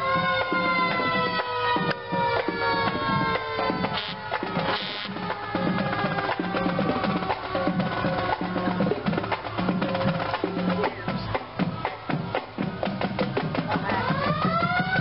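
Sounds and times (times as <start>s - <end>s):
marching band drums: 0.0s - 15.0s.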